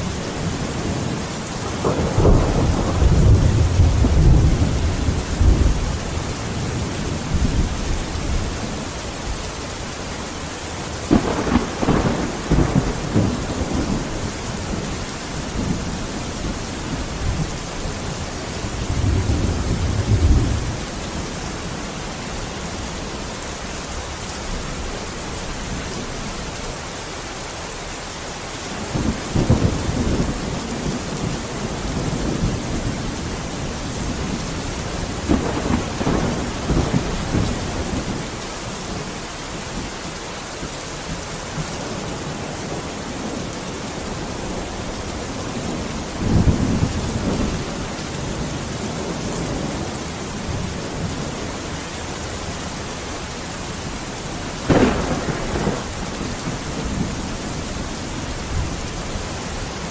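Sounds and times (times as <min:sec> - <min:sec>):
thunder rumbling: 0:00.0 - 0:09.4, 0:10.7 - 0:21.8, 0:28.7 - 0:39.8, 0:41.0 - 0:52.5, 0:53.1 - 0:59.9
heavy rain hissing: 0:00.0 - 0:59.9.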